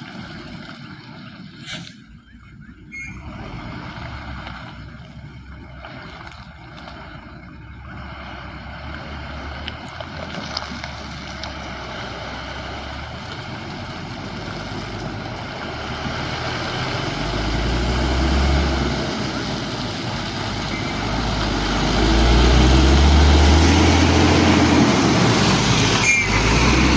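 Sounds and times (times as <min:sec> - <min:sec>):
diesel truck engine approaching: 0:01.6 - 0:26.9.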